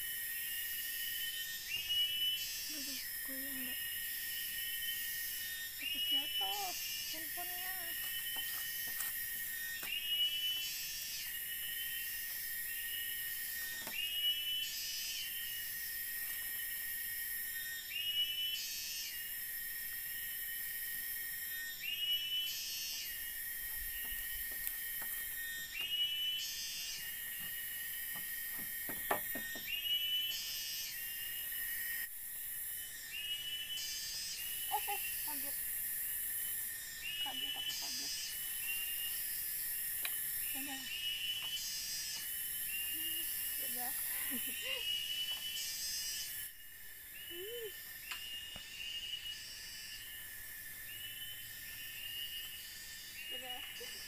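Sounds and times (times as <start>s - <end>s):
high-pitched insect drone: 0.0s - 54.0s
rising chirps and buzz call: 0.0s - 54.0s.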